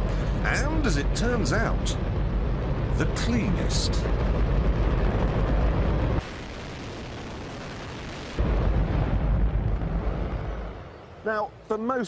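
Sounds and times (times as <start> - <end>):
rocket engine roaring: 0.0 - 11.3.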